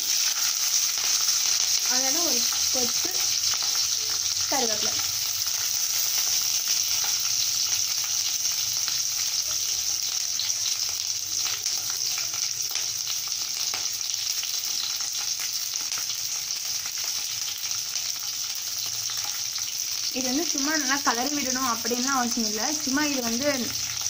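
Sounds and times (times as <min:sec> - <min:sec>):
hot oil sizzling and crackling: 0:00.0 - 0:24.0.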